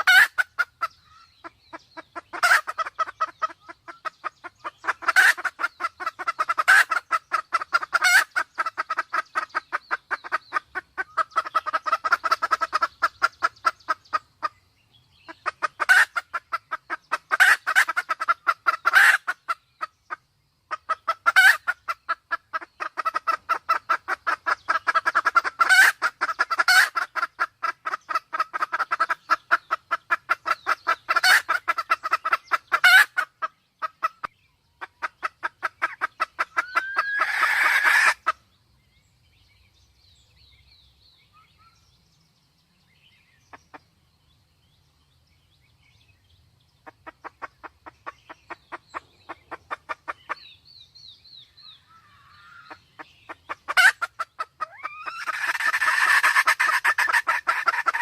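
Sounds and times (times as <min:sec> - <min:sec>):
hen clucking: 0:00.0 - 0:14.6, 0:15.2 - 0:38.4, 0:46.8 - 0:50.6, 0:51.6 - 0:58.0.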